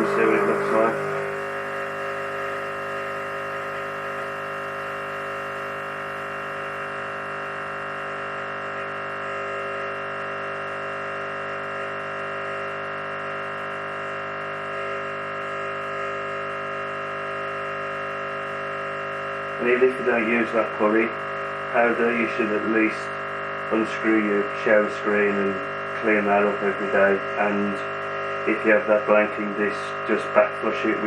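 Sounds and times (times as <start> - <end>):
espresso machine pump humming: 0.0 - 31.0.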